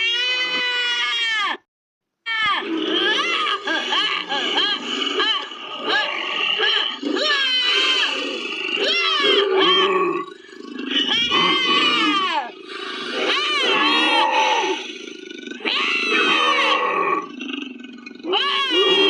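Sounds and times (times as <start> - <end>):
creature roaring and growling: 0.0 - 1.6, 2.3 - 19.0.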